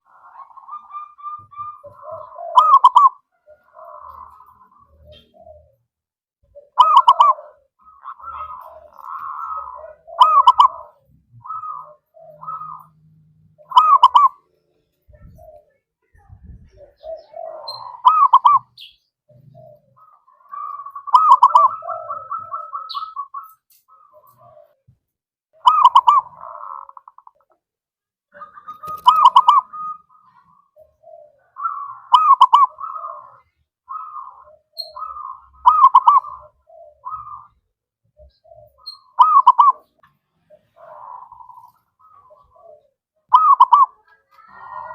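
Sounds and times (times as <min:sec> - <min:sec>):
doves cooing: 0:00.0 - 0:25.0, 0:25.6 - 0:27.6, 0:28.3 - 0:44.9.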